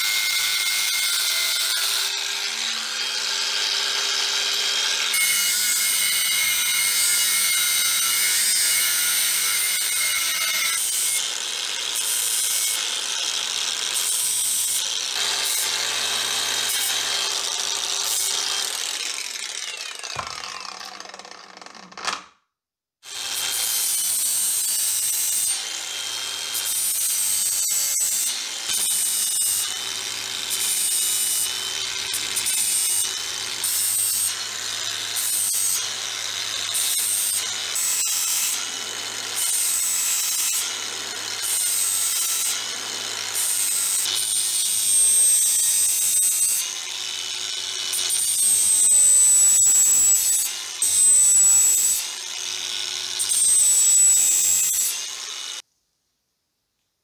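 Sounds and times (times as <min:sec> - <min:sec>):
angle grinder grinding steel: 0:00.0 - 0:22.2, 0:23.0 - 0:55.6.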